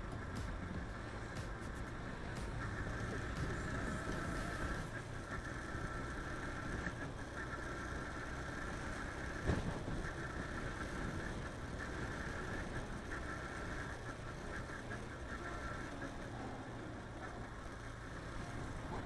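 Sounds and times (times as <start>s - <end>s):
motorcycle engine cruising: 0.0s - 19.0s
road and wind noise: 0.0s - 19.0s.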